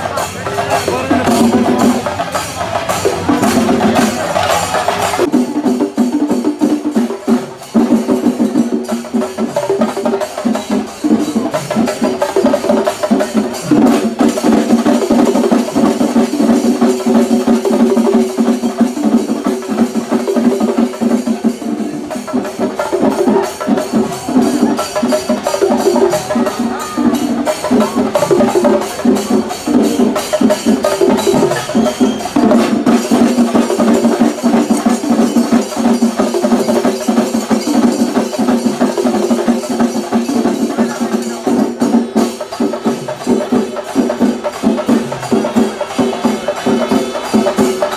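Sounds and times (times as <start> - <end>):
fast drumming with sticks: 0.0 - 47.9.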